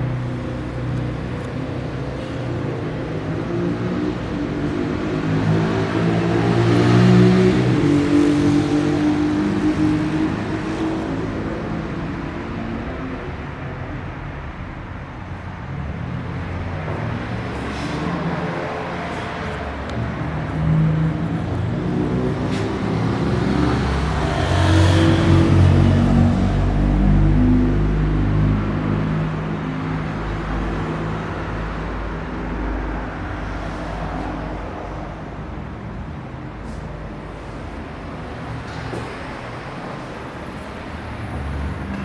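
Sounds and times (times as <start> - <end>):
cars passing: 0.0 - 42.0.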